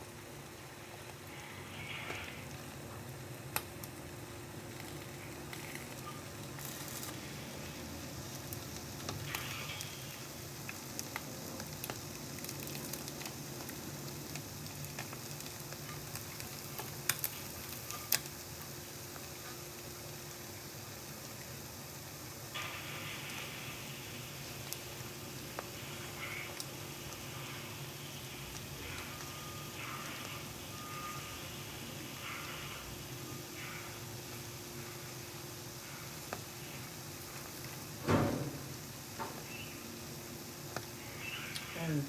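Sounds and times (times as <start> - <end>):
egg sizzling: 0.0 - 42.0.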